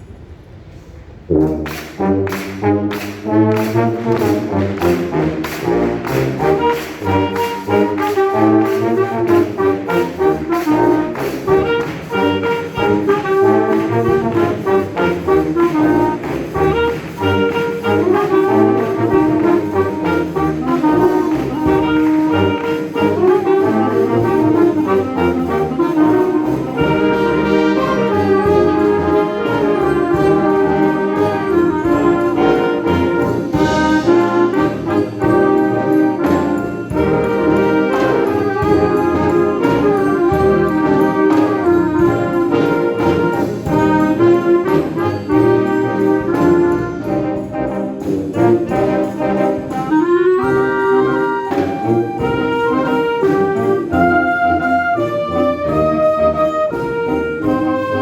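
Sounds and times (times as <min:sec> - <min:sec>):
concert wind band playing: 0:00.0 - 0:58.0
steady percussion beat: 0:00.0 - 0:58.0.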